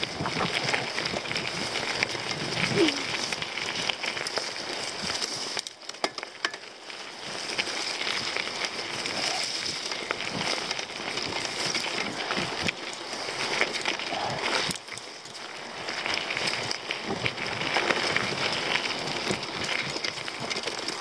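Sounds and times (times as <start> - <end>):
bike clicks and rattles: 0.0 - 21.0
bike tyres crackling over leaves: 0.0 - 21.0.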